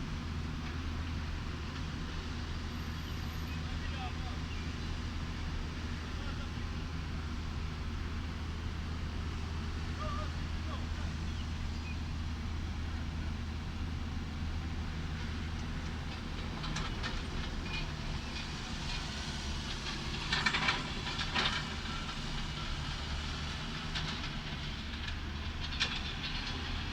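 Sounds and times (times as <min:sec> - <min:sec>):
heavy machinery engine hum: 0:00.0 - 0:26.9.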